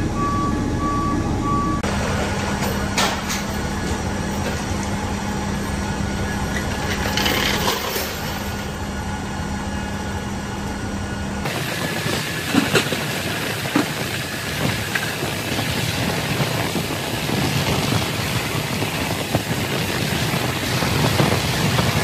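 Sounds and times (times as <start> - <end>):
rushing mechanical noise: 0.0 - 22.0
steady hum: 0.0 - 22.0.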